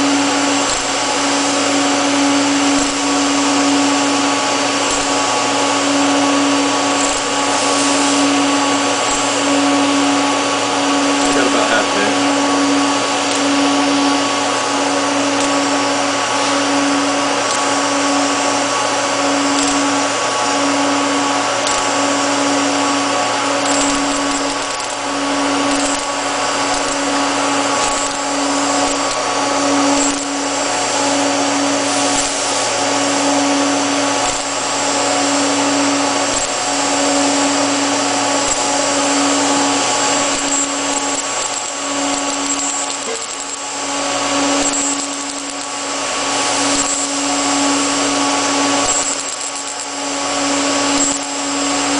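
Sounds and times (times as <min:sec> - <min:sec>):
low pulsing hum: 0:00.0 - 0:48.9
welding machine whir and hiss: 0:00.0 - 0:51.9.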